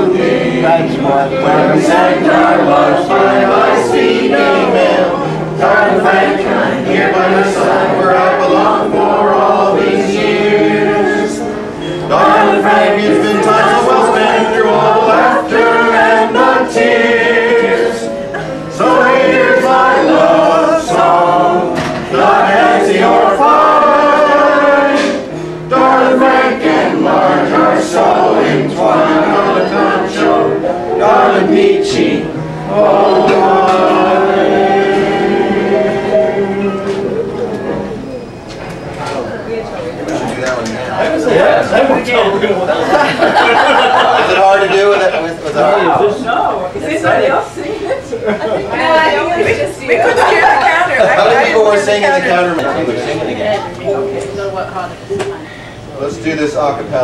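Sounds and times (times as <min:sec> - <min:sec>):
group of people singing: 0:00.0 - 0:57.0.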